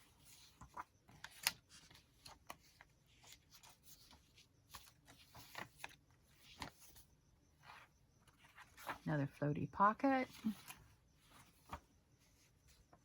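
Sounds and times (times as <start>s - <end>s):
paper pages rustling and flicking: 0.0s - 7.0s, 7.6s - 9.0s, 10.3s - 12.5s.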